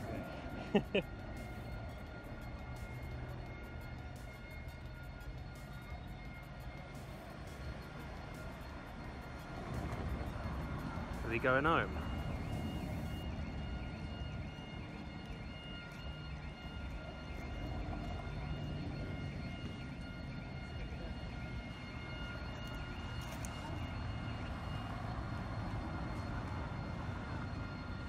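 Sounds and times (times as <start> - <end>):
distant jet aircraft rumble: 0.0 - 28.0.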